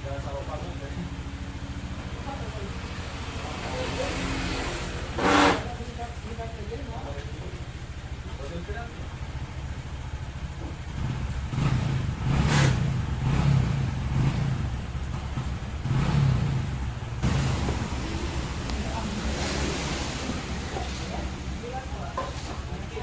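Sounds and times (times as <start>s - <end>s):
scooter engine revving: 1.1s - 6.0s, 9.1s - 23.0s.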